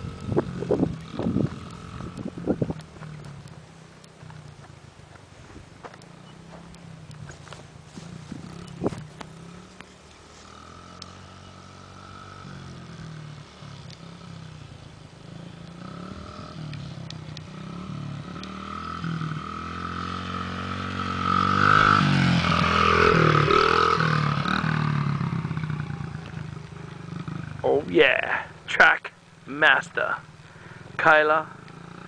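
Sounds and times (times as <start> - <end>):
dirt bike engine revving: 0.0 - 4.8, 6.0 - 32.0.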